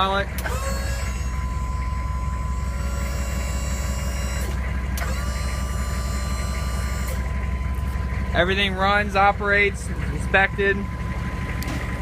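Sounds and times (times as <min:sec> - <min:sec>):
diesel engine idling: 0:00.0 - 0:12.0
hydraulic pump motor whining: 0:00.0 - 0:12.0.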